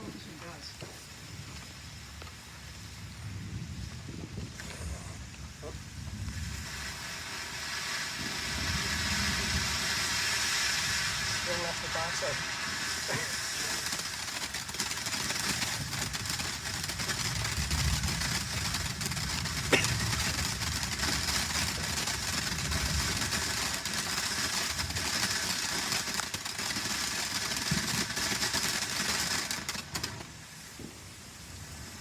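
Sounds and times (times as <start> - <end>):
firework hissing and crackling: 0.0 - 32.0.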